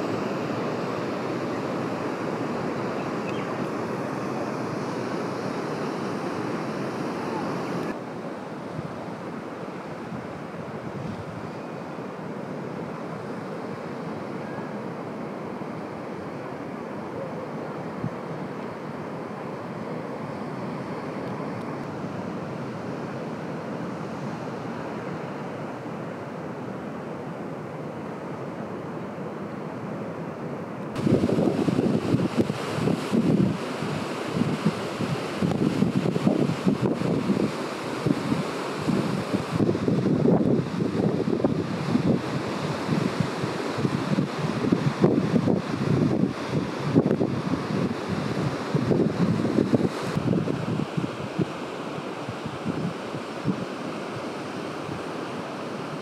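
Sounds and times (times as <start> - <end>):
sea surf washing in: 0.0 - 56.0
wind: 0.0 - 56.0.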